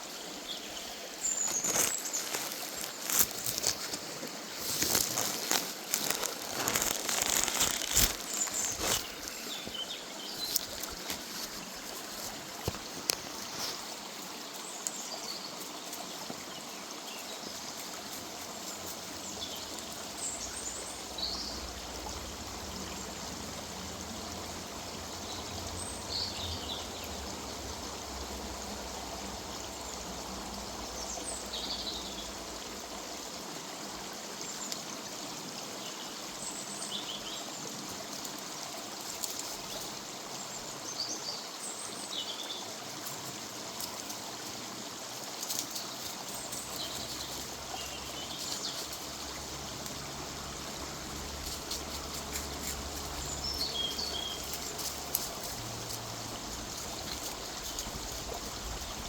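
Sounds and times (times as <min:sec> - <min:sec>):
river water running: 0:00.0 - 0:59.0.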